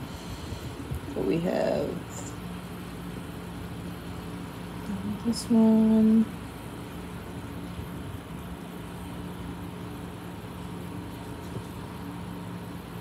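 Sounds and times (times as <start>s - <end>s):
even hiss: 0.0s - 13.0s
low background hum: 0.0s - 13.0s.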